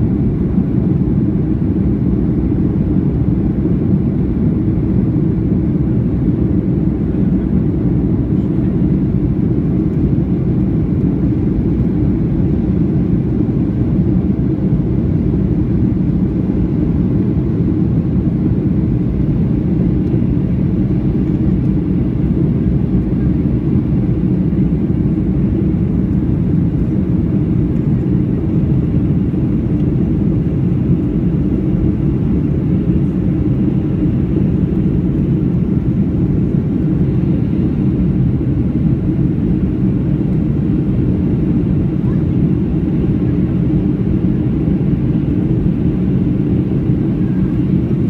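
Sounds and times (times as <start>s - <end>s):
airplane cabin engine roar: 0.0s - 48.0s.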